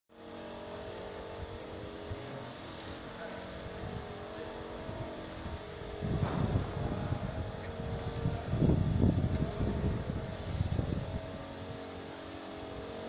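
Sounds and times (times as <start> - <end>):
motor hum with held tones: 0.1 - 13.0
low rumble: 0.8 - 12.0.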